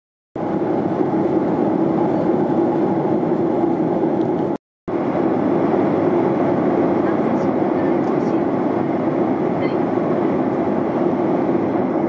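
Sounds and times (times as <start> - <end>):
airliner cabin drone: 0.4 - 12.0.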